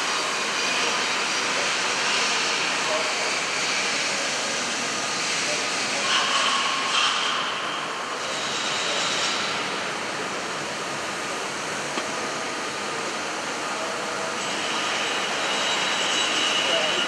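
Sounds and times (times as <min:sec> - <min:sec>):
milling machine whirring: 0:00.0 - 0:17.0.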